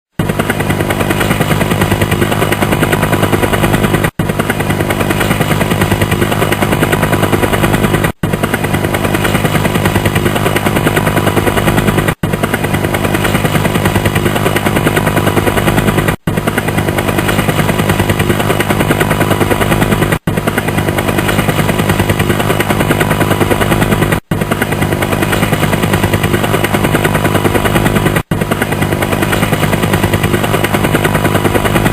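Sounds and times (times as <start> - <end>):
helicopter rotor chop: 0.1 - 31.9
engine hum: 0.2 - 31.9.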